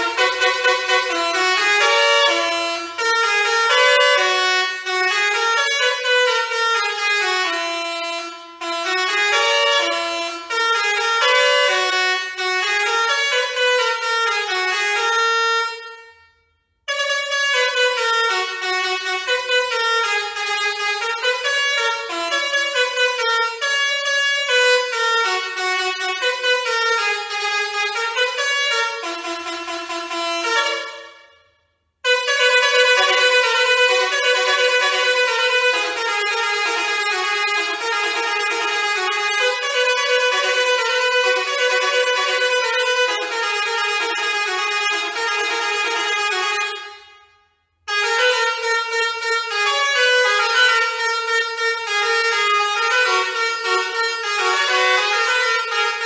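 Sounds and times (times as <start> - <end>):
musical air horn melody: 0.0 - 56.0.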